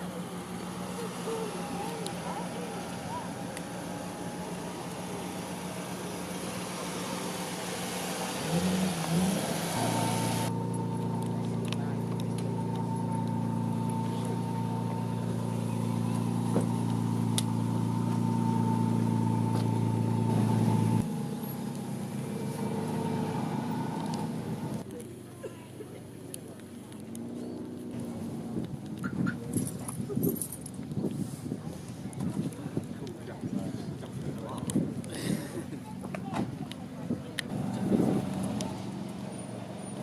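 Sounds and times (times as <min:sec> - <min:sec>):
car engine idling: 0:00.0 - 0:32.6
engine throttle blips: 0:00.0 - 0:33.2, 0:35.7 - 0:40.0.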